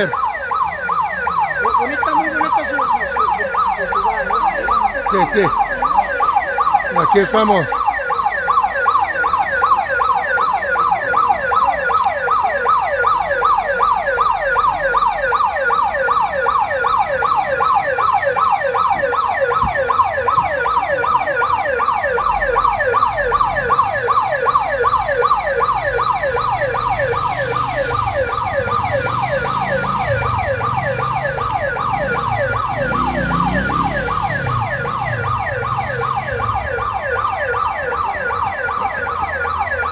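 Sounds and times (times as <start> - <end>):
electronic siren yelping: 0.0 - 39.9.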